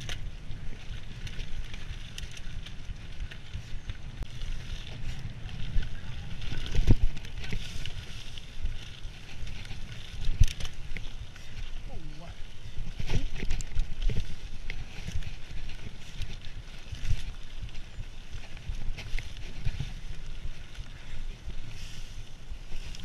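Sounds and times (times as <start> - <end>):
bike chain and frame rattling: 0.0 - 23.0
bike tyres on dirt: 0.0 - 23.0
wind rumble on microphone: 0.0 - 23.0.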